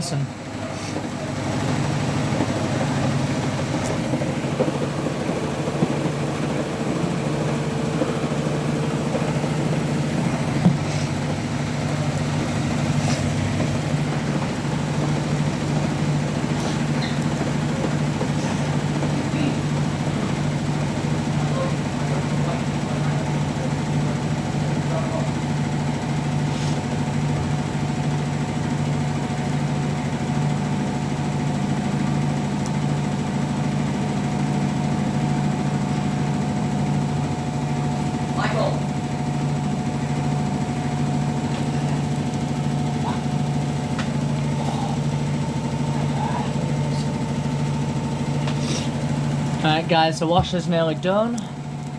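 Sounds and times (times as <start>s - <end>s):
washing machine knock: 0.0s - 48.5s, 49.2s - 51.8s
washing machine spinning: 0.0s - 51.9s.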